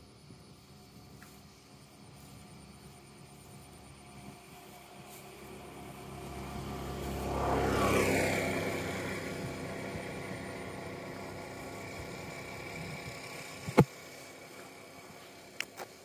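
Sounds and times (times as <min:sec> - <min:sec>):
motor vehicle passing by: 0:02.2 - 0:15.3.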